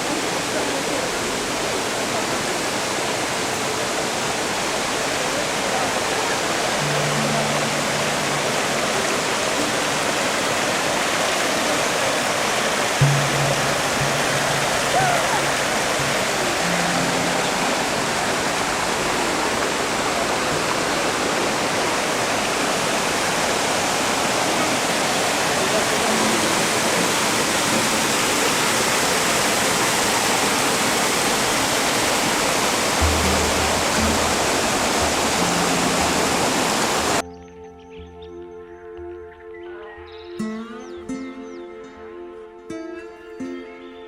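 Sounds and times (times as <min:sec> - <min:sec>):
waterfall roaring: 0:00.0 - 0:37.2.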